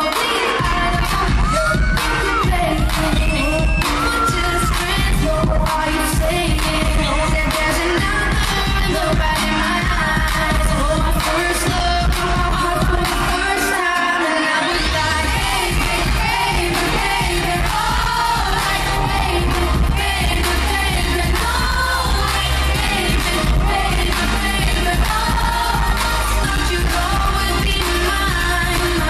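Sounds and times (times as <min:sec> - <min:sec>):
dance-pop song with sung vocals: 0:00.0 - 0:29.0.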